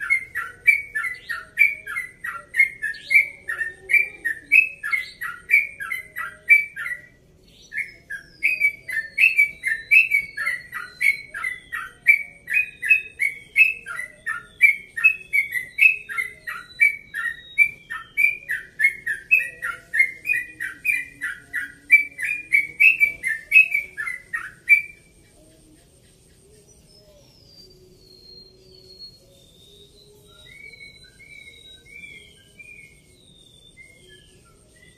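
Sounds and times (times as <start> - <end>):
bird chirping song: 0.0 - 34.9.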